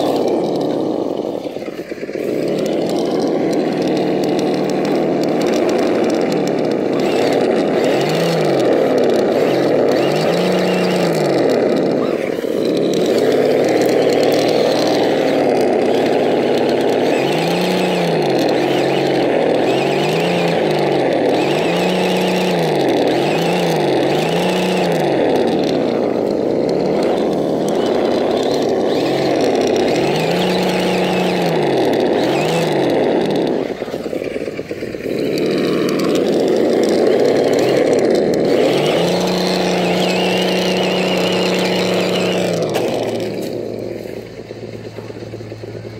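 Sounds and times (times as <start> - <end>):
rc car electric motor whining: 0.0 - 45.9.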